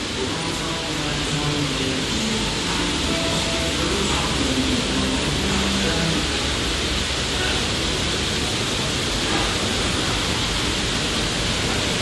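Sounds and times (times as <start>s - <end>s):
polishing machines running: 0.0s - 12.0s.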